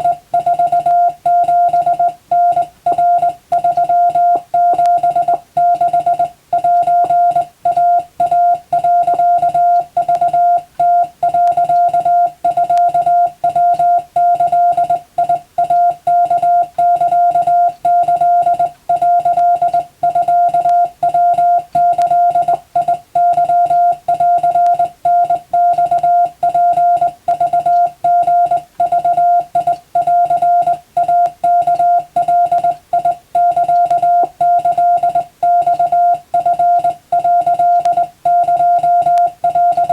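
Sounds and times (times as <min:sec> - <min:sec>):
morse code beeping: 0:00.0 - 0:39.9.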